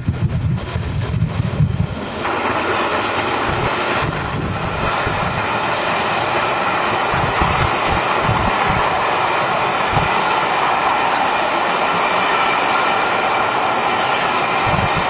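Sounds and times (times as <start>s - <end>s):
steam train rumbling past: 0.0s - 15.0s.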